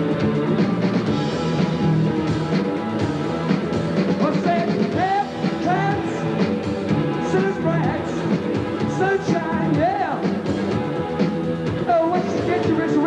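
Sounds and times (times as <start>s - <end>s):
drum kit: 0.0s - 13.0s.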